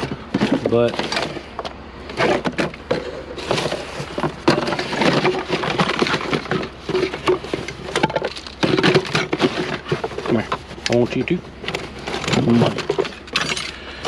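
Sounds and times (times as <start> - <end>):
metal and plastic items clattering: 0.0 - 14.0
rustling of moved items: 0.0 - 14.0.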